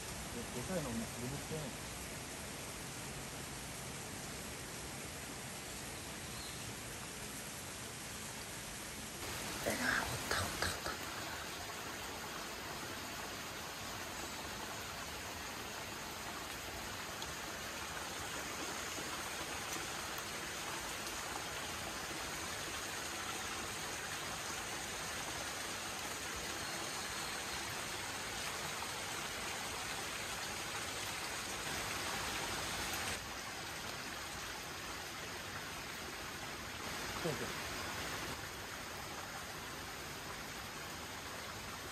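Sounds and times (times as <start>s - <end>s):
heavy rain pouring: 8.0s - 41.9s.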